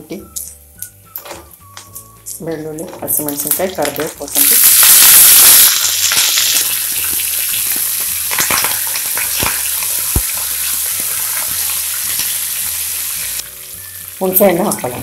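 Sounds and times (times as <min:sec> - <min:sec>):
leaves sizzling in hot oil: 0:01.5 - 0:15.0.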